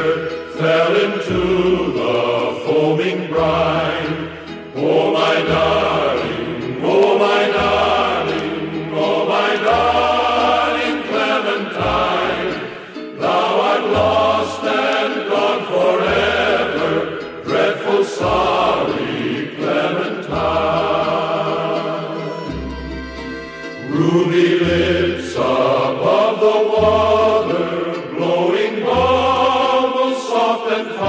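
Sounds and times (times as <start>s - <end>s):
song with vocal melody and bass: 0.0s - 31.0s.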